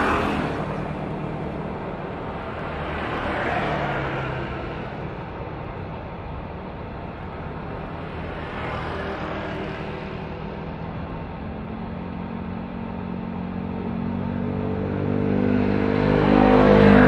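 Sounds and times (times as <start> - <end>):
jet engines at taxi power: 0.0 - 17.0.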